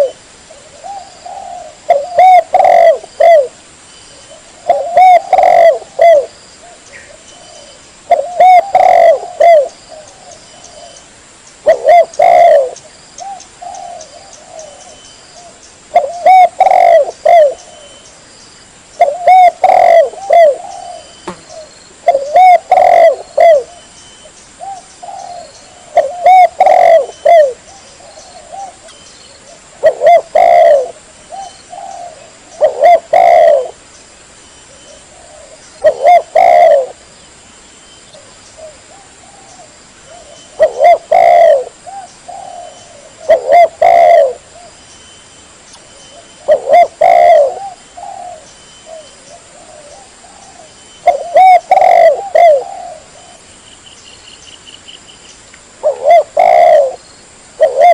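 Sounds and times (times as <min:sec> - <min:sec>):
dove cooing: 0:00.0 - 0:03.6, 0:04.2 - 0:11.0, 0:11.6 - 0:18.0, 0:19.0 - 0:23.9, 0:24.6 - 0:33.8, 0:34.7 - 0:37.0, 0:38.1 - 0:44.8, 0:46.1 - 0:53.5, 0:55.8 - 0:57.0, 0:57.6 - 0:57.9.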